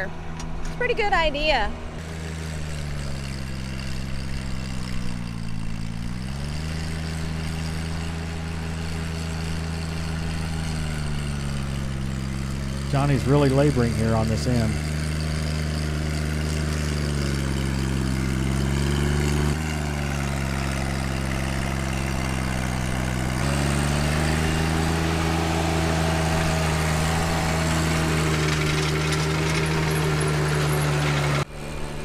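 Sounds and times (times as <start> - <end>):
tractor diesel engine labouring: 0.0 - 32.0.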